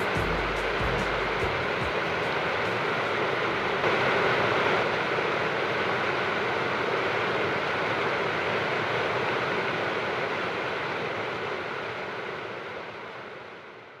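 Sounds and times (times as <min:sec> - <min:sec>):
river rushing over rocks: 0:00.0 - 0:12.4.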